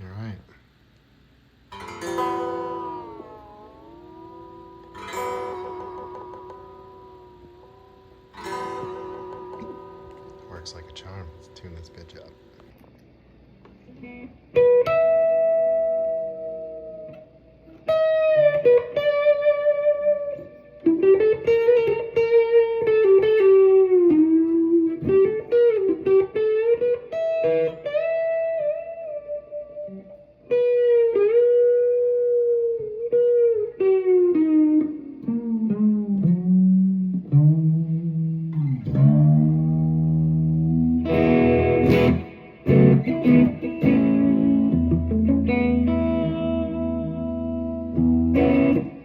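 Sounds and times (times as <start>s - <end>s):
electric guitar notes with tremolo: 1.7s - 12.7s, 13.8s - 49.0s.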